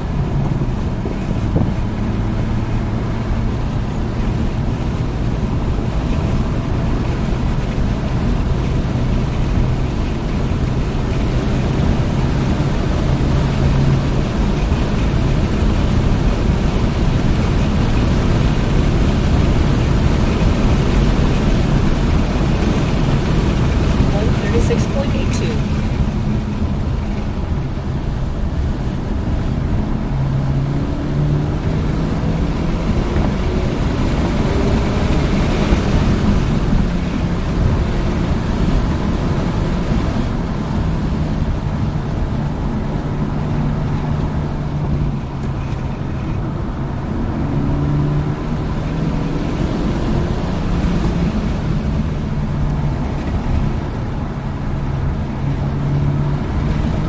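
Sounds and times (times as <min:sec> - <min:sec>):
car engine pulling hard: 0:00.0 - 0:57.0
wind and road noise: 0:00.0 - 0:57.0.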